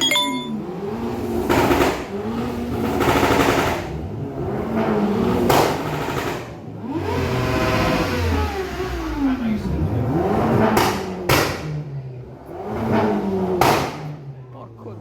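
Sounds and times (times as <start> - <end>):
car engine revving: 0.6 - 14.1.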